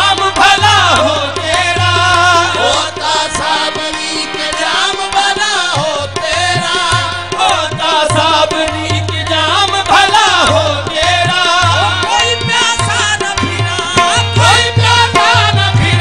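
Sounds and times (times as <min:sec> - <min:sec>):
harmonium: 0:00.0 - 0:16.0
singers' wordless voices: 0:00.0 - 0:16.0
tabla beat: 0:00.0 - 0:16.0.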